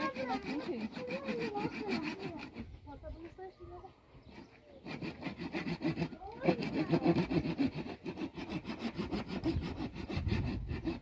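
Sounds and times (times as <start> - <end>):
hand saw cutting wood: 0.0 - 2.8, 4.2 - 11.0.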